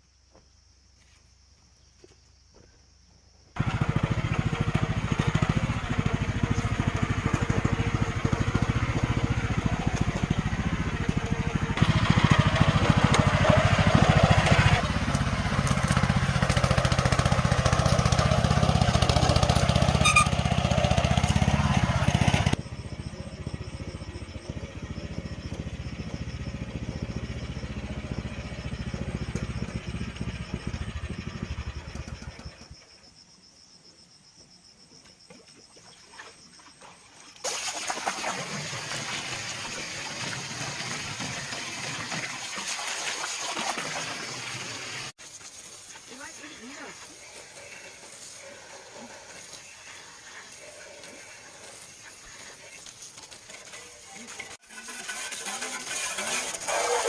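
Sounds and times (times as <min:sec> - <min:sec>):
small engine running: 0:03.6 - 0:32.8, 0:38.4 - 0:45.2, 0:46.1 - 0:57.0.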